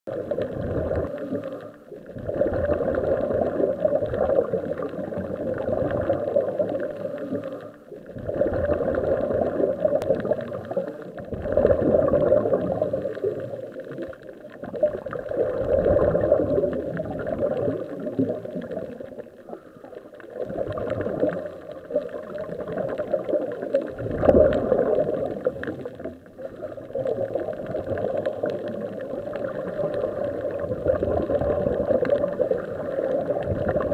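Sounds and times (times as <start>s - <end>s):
bubbling underwater exhalations: 0.1s - 33.9s.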